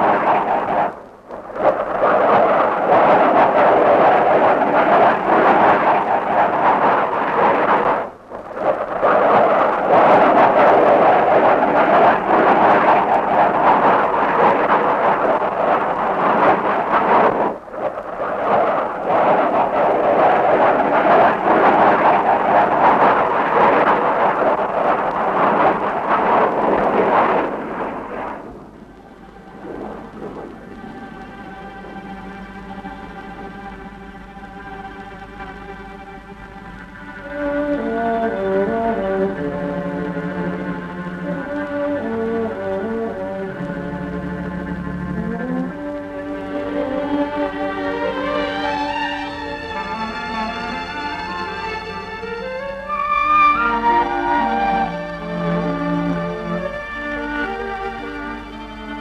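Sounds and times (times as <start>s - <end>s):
rumble of explosions: 0.0s - 59.0s.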